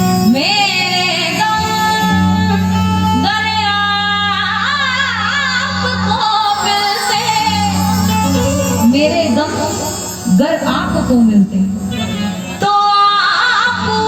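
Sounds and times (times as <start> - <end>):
woman singing wordless notes: 0.2 - 11.9.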